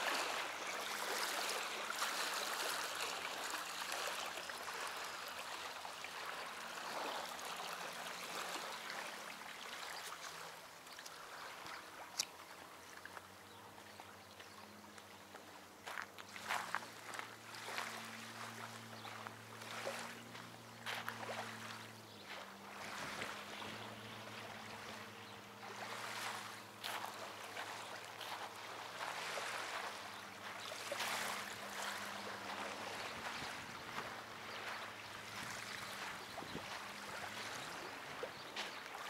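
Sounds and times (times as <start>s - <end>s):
small waves lapping and splashing: 0.0s - 39.0s.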